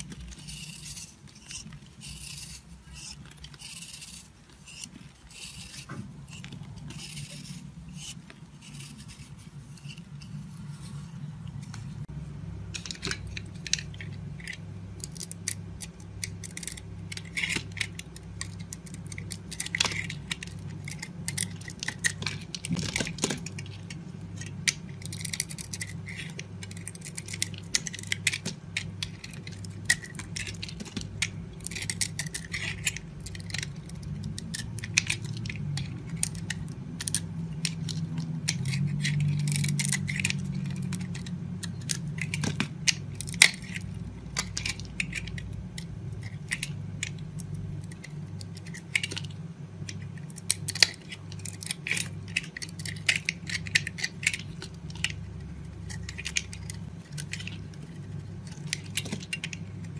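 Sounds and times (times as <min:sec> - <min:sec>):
knife carving dry soap: 0:00.0 - 0:59.9.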